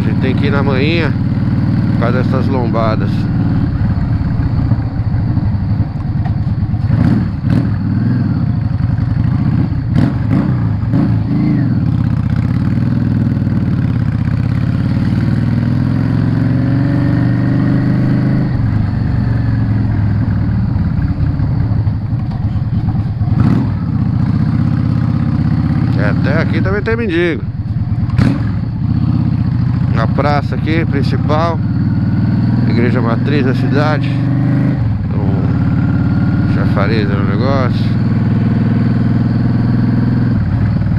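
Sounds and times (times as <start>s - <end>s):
motorcycle engine revs dropping and rising: 0.0s - 40.9s.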